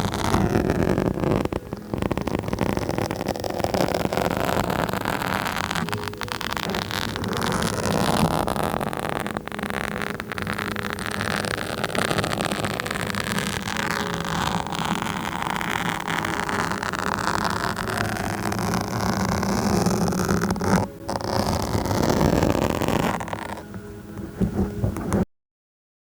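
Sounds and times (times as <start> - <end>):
microphone being scratched: 0.0 - 25.3.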